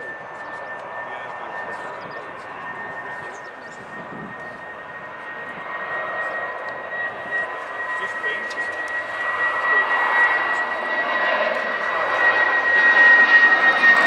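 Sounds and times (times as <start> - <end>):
airliner engines whining: 0.0 - 14.0.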